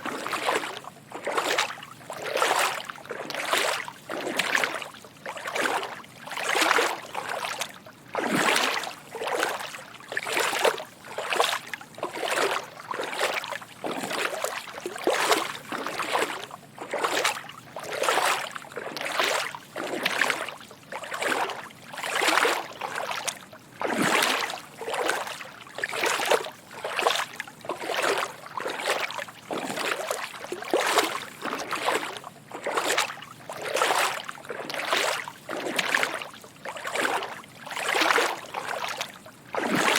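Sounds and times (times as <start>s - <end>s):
footsteps wading through water: 0.0s - 39.9s.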